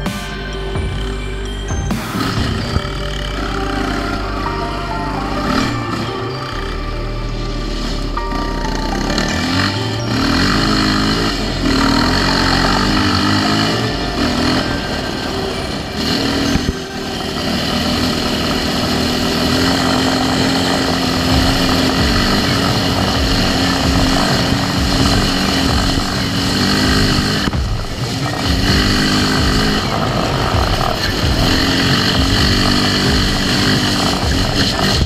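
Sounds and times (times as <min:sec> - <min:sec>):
atv engine running hard: 0:00.0 - 0:35.0.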